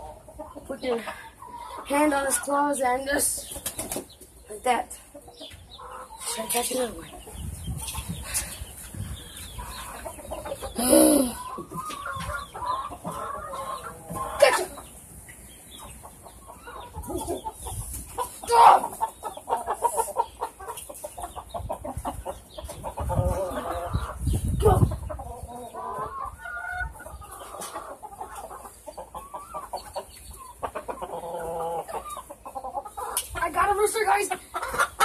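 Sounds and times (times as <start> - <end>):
chickens clucking and calling: 0.0 - 35.0.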